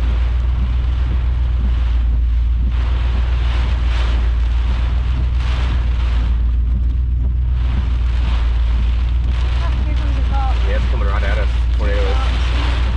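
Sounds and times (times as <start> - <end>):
storm wind buffeting microphone: 0.0 - 12.9.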